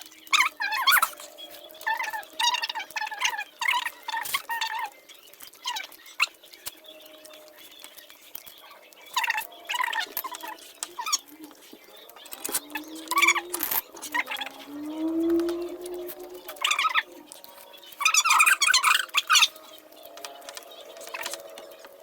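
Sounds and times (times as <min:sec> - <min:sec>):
chewing and mouth smacking: 0:00.0 - 0:22.0.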